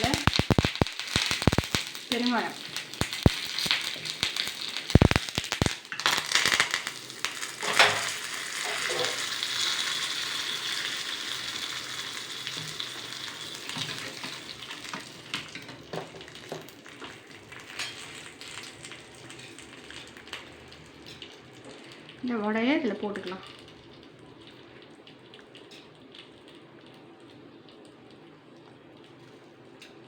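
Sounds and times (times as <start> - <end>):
oil sizzling: 0.0 - 30.0
spices crackling in hot oil: 0.0 - 30.0.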